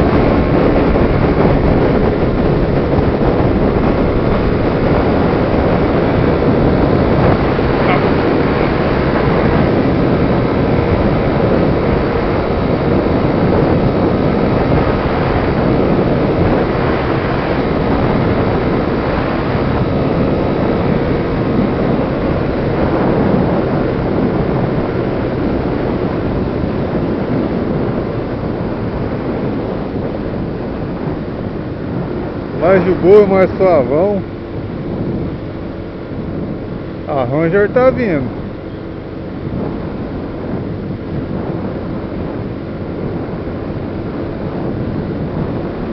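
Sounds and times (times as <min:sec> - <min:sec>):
car road and wind noise: 0:00.0 - 0:45.9
wind buffeting microphone: 0:00.0 - 0:45.9.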